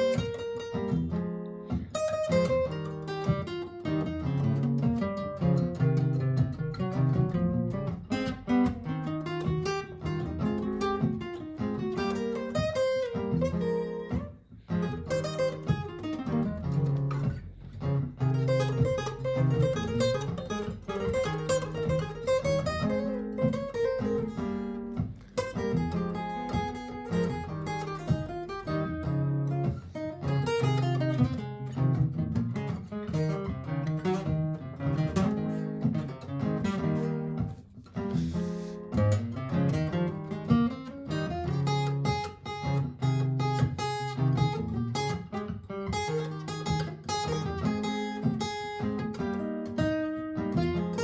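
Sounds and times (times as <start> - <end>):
acoustic guitar plucked notes: 0.0 - 51.0
looped guitar part: 0.0 - 51.0.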